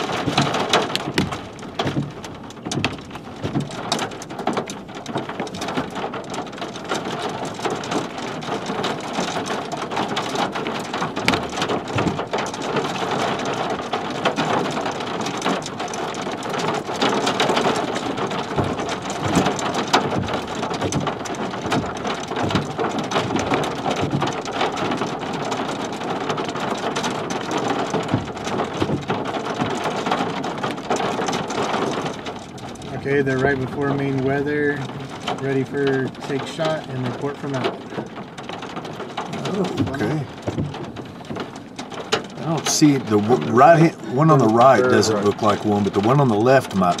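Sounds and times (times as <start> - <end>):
raindrops ticking close by: 0.0 - 47.0
steady rain falling: 0.0 - 47.0.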